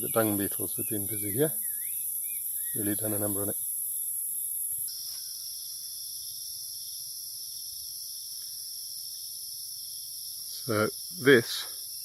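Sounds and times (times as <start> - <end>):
crickets trilling: 0.0 - 12.0
lower-pitched insect trill: 0.0 - 12.0.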